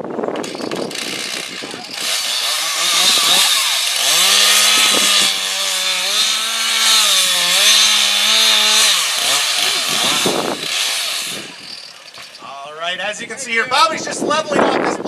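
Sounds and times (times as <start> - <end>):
chainsaw cutting wood: 0.3 - 12.6.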